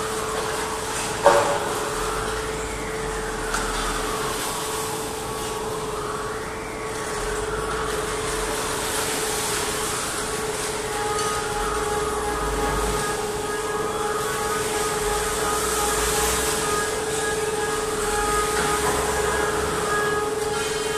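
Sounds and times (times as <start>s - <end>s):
industrial machinery hum: 0.0s - 20.9s.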